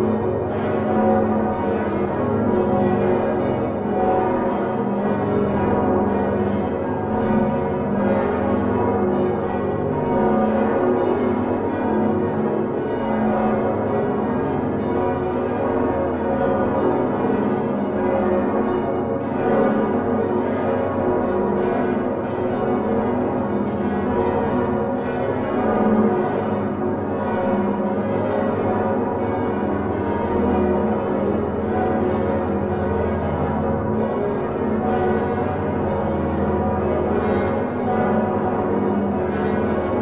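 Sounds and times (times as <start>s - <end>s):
church bells pealing: 0.0s - 40.0s.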